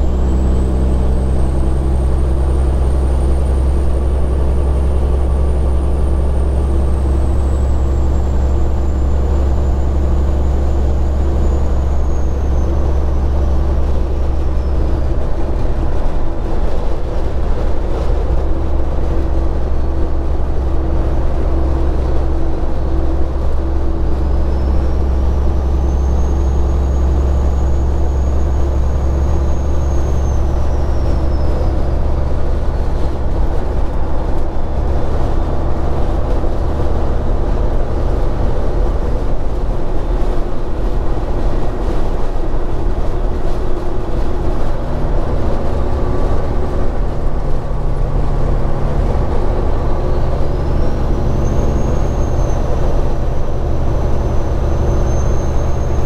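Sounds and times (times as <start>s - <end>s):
diesel truck exhaust drone: 0.0s - 56.0s.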